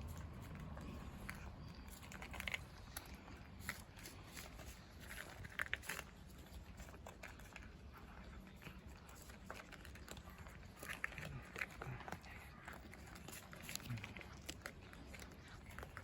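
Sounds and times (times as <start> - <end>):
cats crunching dry food: 0.0 - 16.0.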